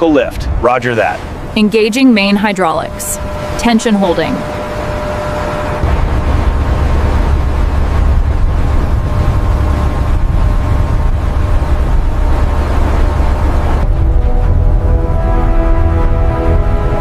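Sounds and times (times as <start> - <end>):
hydraulic machinery rumbling: 0.5 - 17.0.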